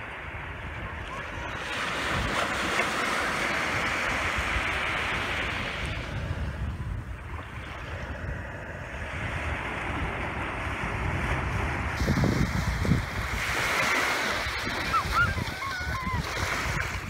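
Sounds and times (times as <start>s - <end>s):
waves washing onto beach: 0.0s - 17.0s.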